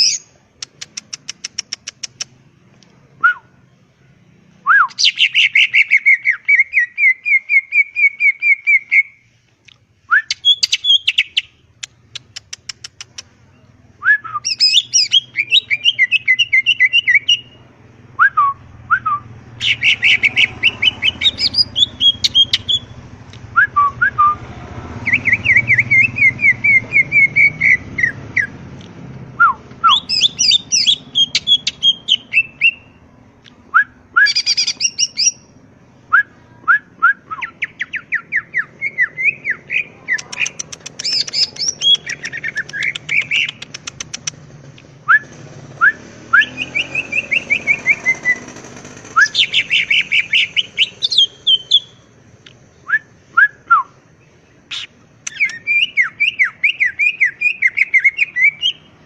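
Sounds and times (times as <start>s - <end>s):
bird singing rapid phrases: 0.0s - 2.7s, 3.5s - 9.4s, 10.0s - 28.8s, 29.6s - 35.7s, 36.8s - 59.0s.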